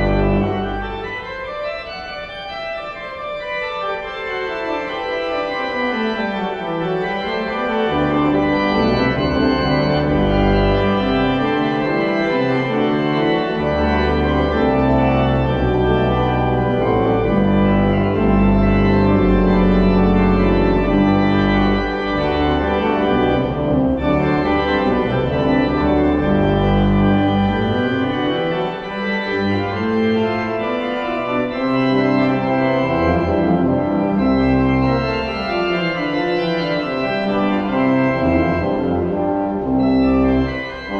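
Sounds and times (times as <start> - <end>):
church organ chords: 0.0 - 40.9.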